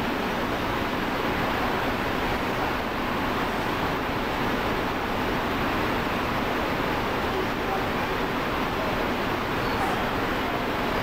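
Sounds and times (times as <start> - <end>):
factory floor background noise: 0.0 - 11.0.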